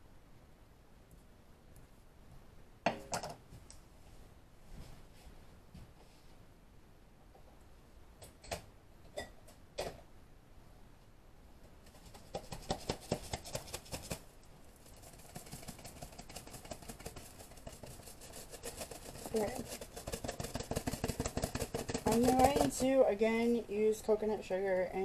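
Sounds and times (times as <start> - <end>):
soft continuous rustle: 0.0 - 2.8, 3.4 - 8.0, 10.6 - 25.0.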